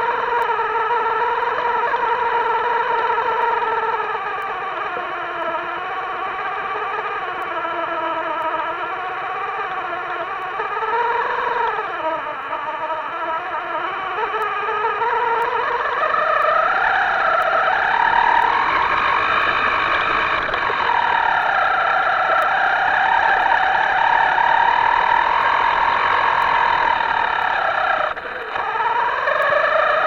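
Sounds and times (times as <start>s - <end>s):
small electric motor whining: 0.0s - 30.0s.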